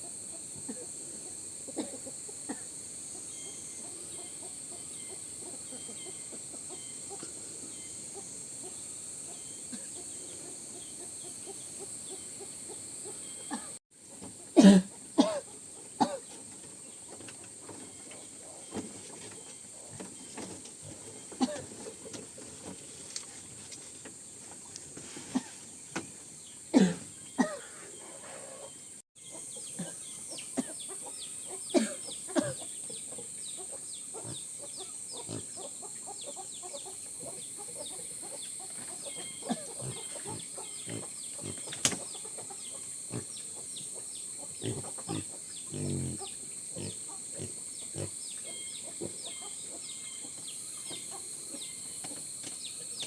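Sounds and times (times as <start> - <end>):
chickens clucking: 0.0 - 26.1, 27.4 - 53.0
steady high-pitched hiss: 0.0 - 53.0.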